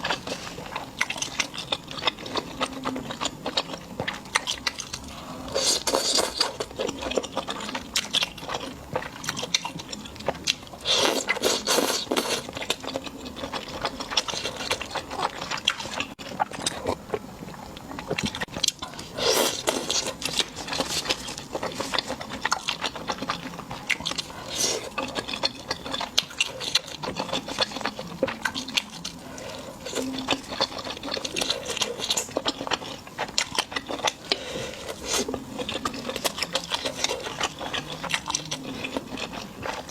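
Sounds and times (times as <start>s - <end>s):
crunching crisp food: 0.0s - 39.9s.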